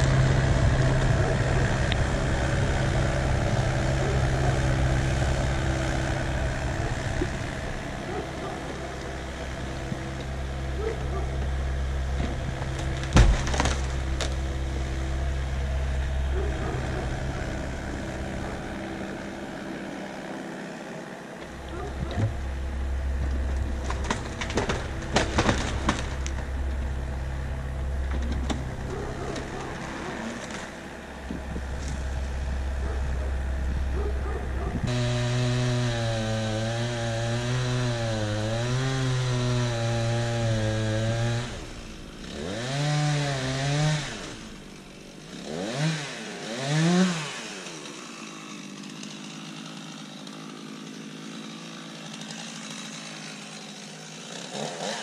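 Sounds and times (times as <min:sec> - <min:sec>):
chainsaw idling and revving: 0:00.0 - 0:55.0.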